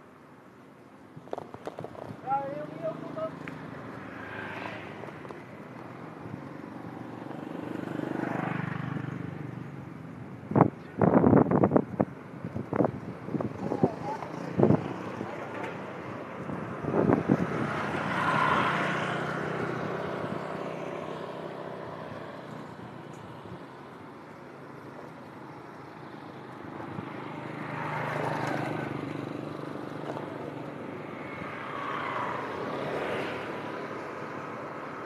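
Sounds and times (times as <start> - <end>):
motorbike engines passing: 1.7 - 35.0.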